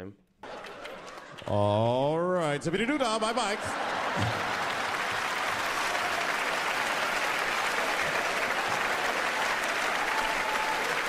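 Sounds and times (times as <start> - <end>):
audience applauding: 0.4 - 1.8, 3.1 - 11.0.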